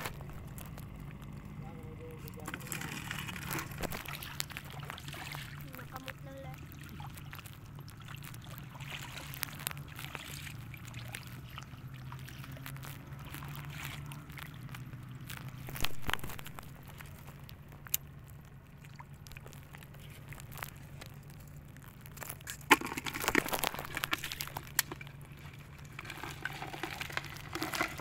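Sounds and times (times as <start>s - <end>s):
crackling crunching handling noise: 0.0s - 28.0s
low steady hum: 0.0s - 28.0s.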